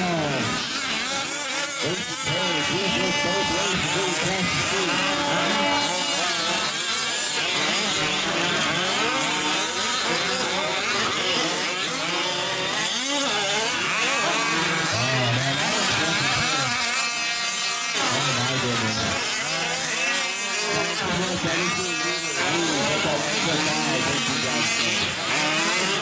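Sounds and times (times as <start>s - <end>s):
rc truck engines revving: 0.0s - 26.0s.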